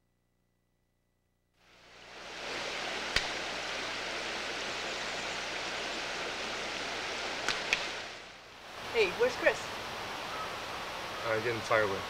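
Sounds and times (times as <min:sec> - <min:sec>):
creek water running over rocks: 0:01.7 - 0:12.0.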